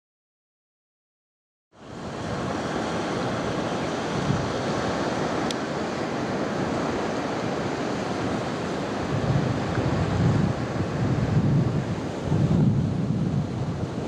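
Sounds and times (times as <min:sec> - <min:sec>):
surf washing on a beach: 0:01.8 - 0:14.0
wind rumbling on microphone: 0:01.8 - 0:14.0.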